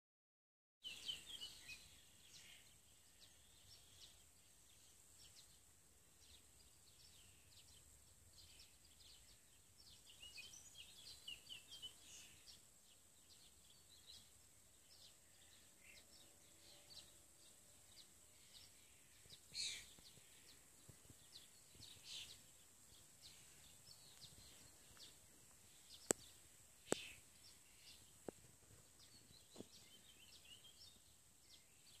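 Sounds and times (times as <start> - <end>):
songbirds chirping: 0.8 - 32.0.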